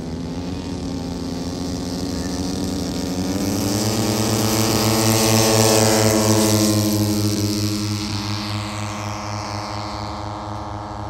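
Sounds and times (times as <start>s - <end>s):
twin-engine aircraft taking off: 0.0s - 11.0s.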